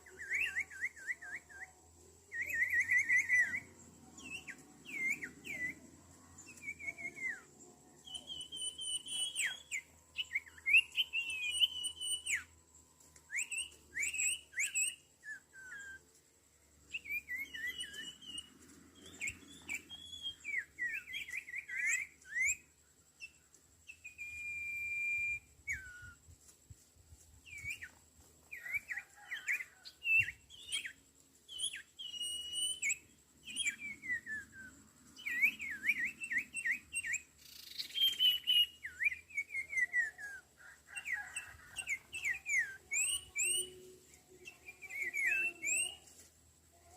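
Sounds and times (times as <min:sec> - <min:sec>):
bird whistled chirps: 0:00.0 - 0:12.6, 0:13.3 - 0:16.1, 0:16.8 - 0:26.3, 0:27.4 - 0:46.9
long level bird whistle: 0:00.0 - 0:46.9.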